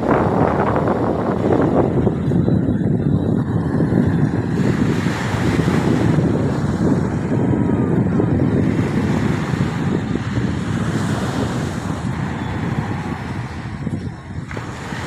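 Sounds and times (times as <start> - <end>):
rough sea waves: 0.0 - 15.0
wind buffeting microphone: 0.0 - 15.0.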